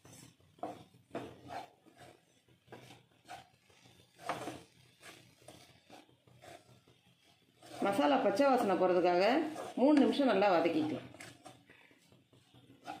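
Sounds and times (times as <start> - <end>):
spatula scraping a pan: 0.0 - 13.0.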